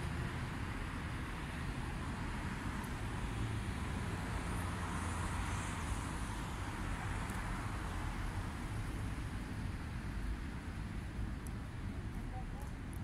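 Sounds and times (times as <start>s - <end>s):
city traffic hum: 0.0s - 13.0s.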